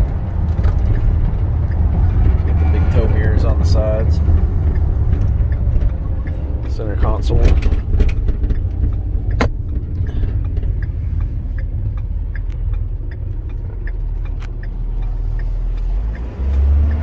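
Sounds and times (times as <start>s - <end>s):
diesel truck engine and road rumble: 0.0s - 17.0s.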